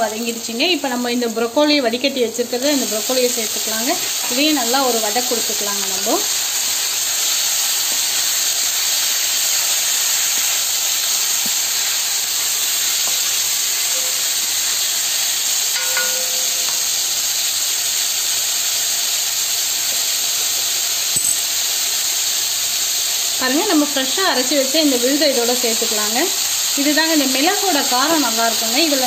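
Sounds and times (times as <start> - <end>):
vegetables sizzling in hot oil: 0.0 - 29.0.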